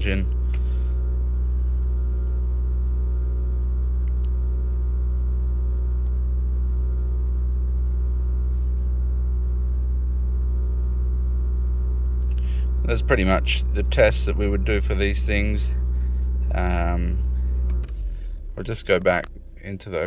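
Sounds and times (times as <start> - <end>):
car engine droning at raised revs: 0.0 - 20.0.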